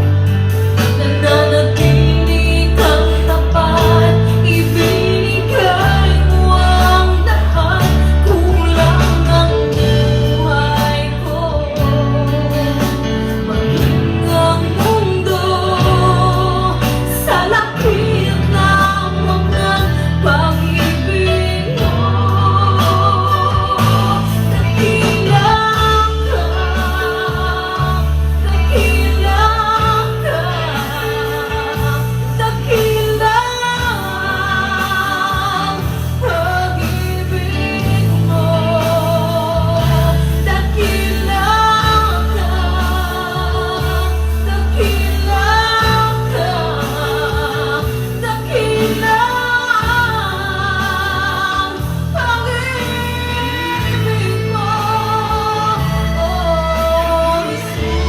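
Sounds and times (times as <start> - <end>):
band accompaniment with bass: 0.0 - 58.0
woman singing with vibrato: 0.0 - 58.0.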